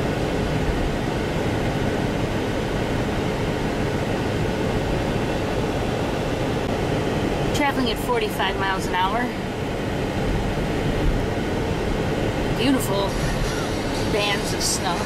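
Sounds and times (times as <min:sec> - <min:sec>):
car cabin road noise: 0:00.0 - 0:15.0.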